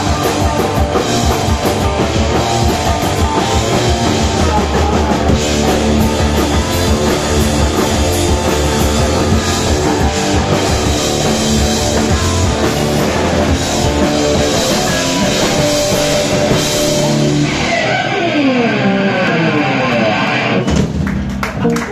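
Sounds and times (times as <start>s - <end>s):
bass guitar: 0.0s - 21.9s
distorted electric guitars: 0.0s - 21.9s
drum kit: 0.0s - 21.9s.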